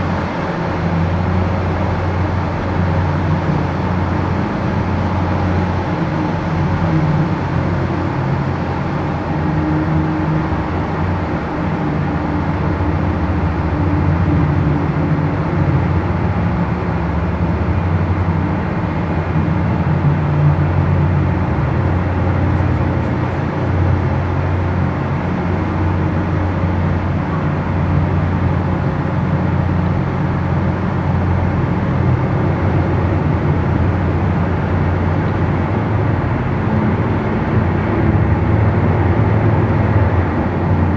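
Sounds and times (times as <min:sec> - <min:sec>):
boat engine drone: 0:00.0 - 0:40.9.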